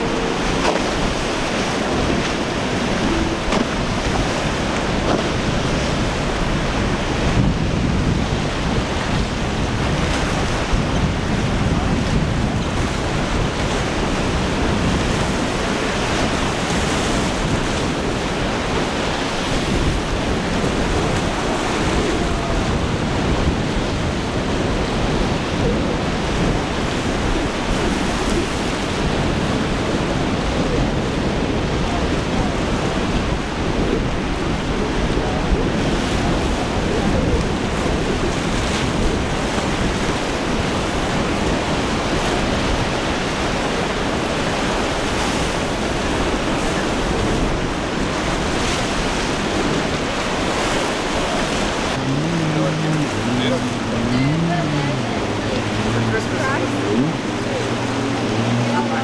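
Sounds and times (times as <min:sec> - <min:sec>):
surf and breaking waves: 0:00.0 - 0:59.0
wind buffeting microphone: 0:00.0 - 0:59.0.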